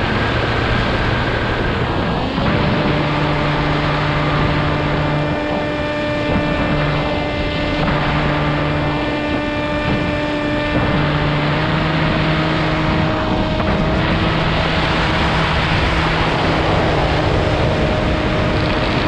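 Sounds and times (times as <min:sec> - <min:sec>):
model airplane engine running: 0:00.0 - 0:19.0
wind rushing over microphone: 0:00.0 - 0:19.0.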